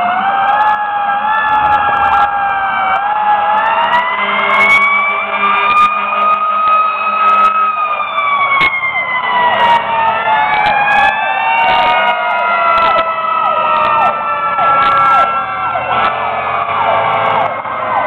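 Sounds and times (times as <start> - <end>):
sirens wailing: 0.0 - 18.0.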